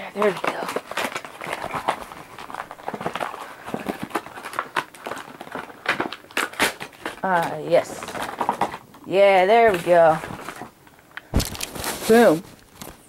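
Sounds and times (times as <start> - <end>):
packaging clicks and rustles: 0.0 - 13.0.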